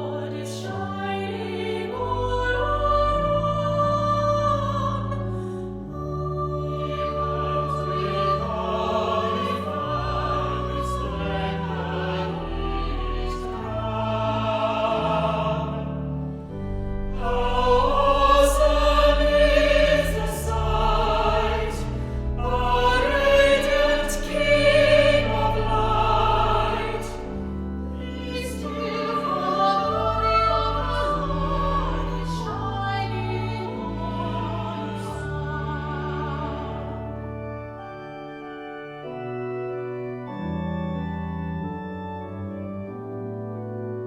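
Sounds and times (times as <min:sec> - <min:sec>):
classical singing: 0:00.0 - 0:43.7
sustained low accompaniment: 0:00.0 - 0:44.0.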